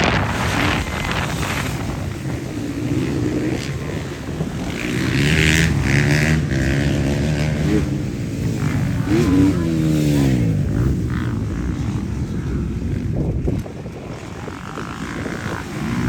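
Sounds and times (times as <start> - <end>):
motorcycle engines revving: 0.0 - 16.0
wind buffeting microphone: 0.0 - 16.0.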